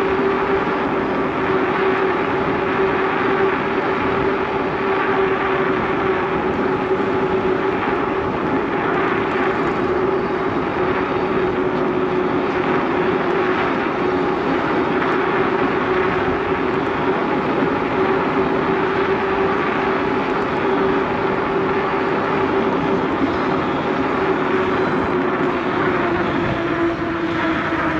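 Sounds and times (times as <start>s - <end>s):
bicycle tyres rolling: 0.0s - 27.9s
steady hum: 0.0s - 27.9s.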